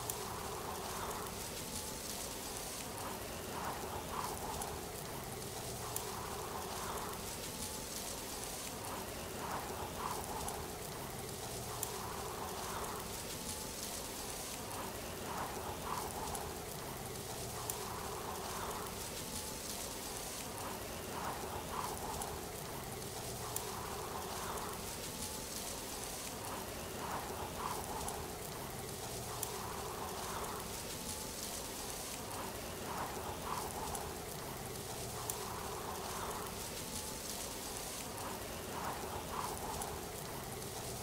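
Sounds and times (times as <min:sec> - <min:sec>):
rushing hiss of falling water: 0:00.0 - 0:41.0.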